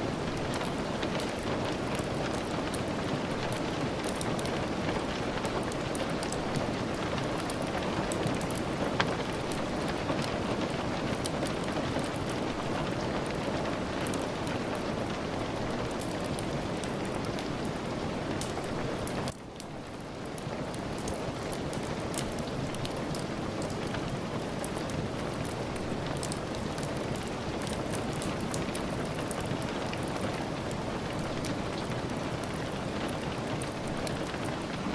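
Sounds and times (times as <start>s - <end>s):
dense rainfall: 0.0s - 34.9s.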